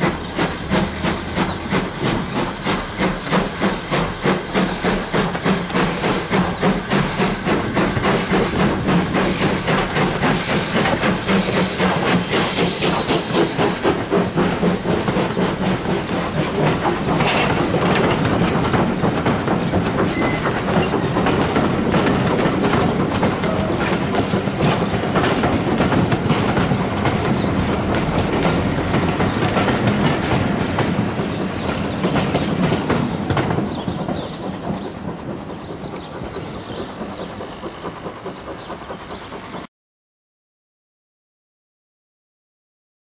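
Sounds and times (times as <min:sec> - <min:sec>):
train wheels clattering: 0:00.0 - 0:39.7.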